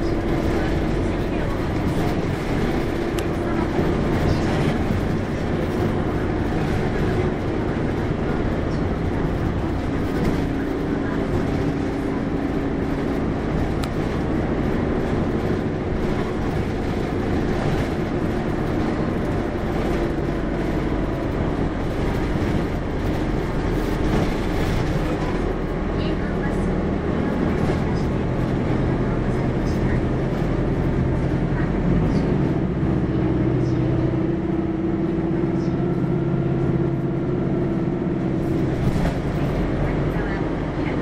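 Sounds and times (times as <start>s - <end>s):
bus diesel engine: 0.0s - 41.0s
road noise: 0.0s - 41.0s.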